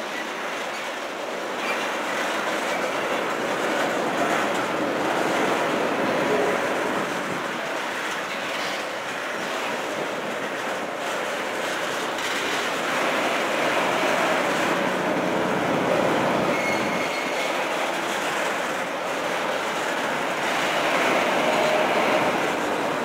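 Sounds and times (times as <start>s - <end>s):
train wheels rushing on rail: 0.0s - 23.0s.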